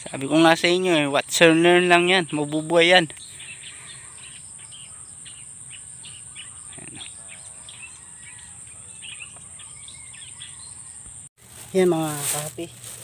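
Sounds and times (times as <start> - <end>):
bird chirps: 0.0 - 11.3.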